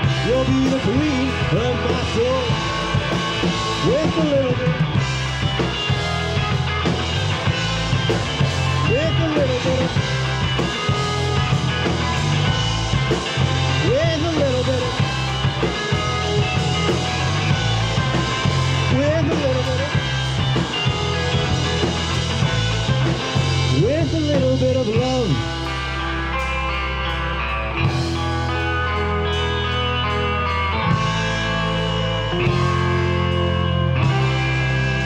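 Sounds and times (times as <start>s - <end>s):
rock band playing instrumental: 0.0s - 35.0s.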